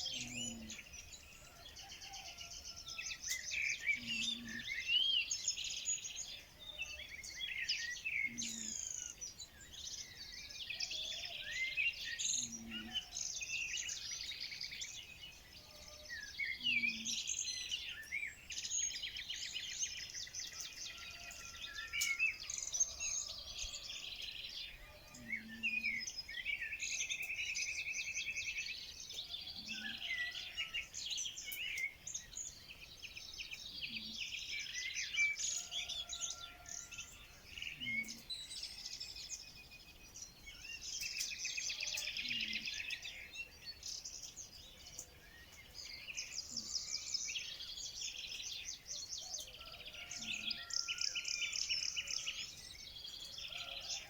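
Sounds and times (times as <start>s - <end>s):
songbirds chorus: 0.0s - 54.0s.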